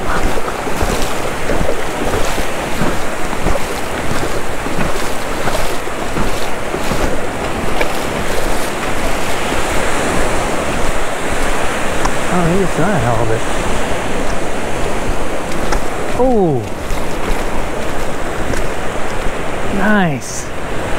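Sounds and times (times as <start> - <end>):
ocean surf breaking: 0.0 - 20.9
wind gusting on microphone: 0.0 - 20.9.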